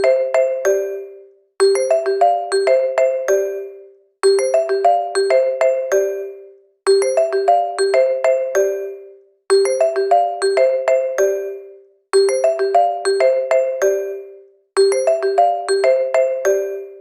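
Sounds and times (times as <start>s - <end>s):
phone ringtone melody: 0.0s - 1.2s, 1.8s - 3.8s, 4.4s - 17.0s.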